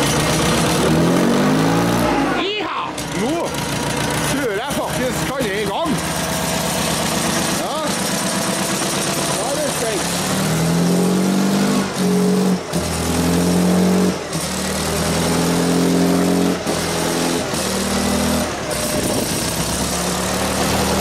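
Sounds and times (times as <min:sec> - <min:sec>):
diesel engine running unevenly: 0:00.0 - 0:21.0.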